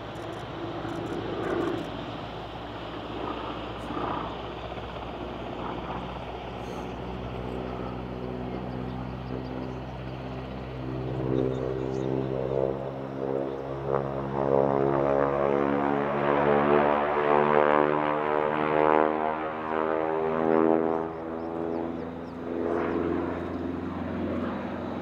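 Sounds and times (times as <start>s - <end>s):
propeller plane droning in flight: 0.0s - 25.0s.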